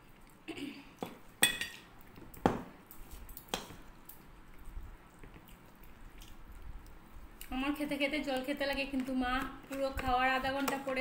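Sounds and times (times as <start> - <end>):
fingers squishing food: 2.0 - 11.0.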